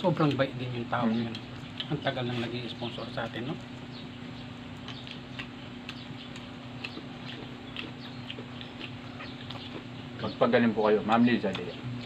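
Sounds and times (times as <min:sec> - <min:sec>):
chewing crispy fried chicken: 0:00.0 - 0:12.0.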